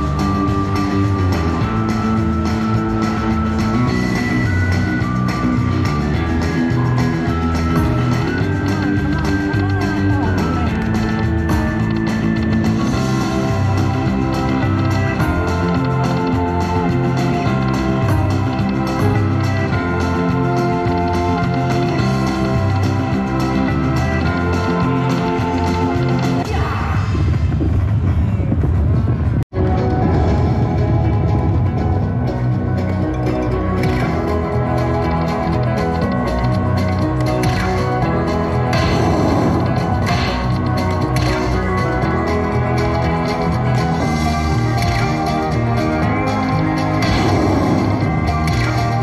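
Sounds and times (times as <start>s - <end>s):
drum-heavy slot machine music: 0.0s - 28.0s, 28.8s - 49.0s.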